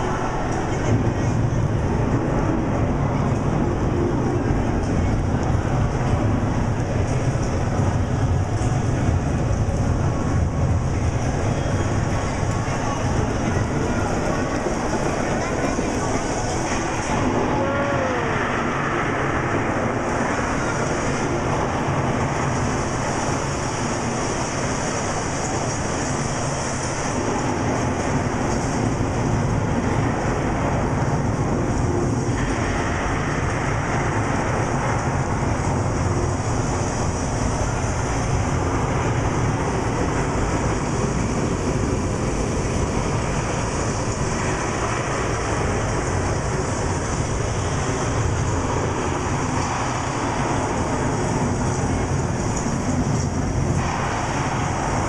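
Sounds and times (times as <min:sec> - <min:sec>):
heavy artificial rain pouring: 0:00.0 - 0:55.0.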